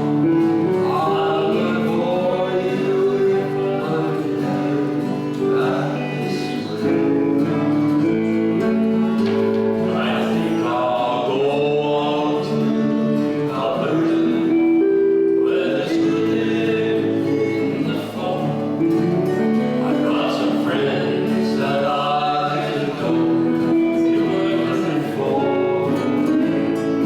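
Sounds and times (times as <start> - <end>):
men singing a folk song: 0.0 - 8.8, 9.8 - 14.8, 15.5 - 27.0
acoustic guitar strumming: 0.0 - 27.0.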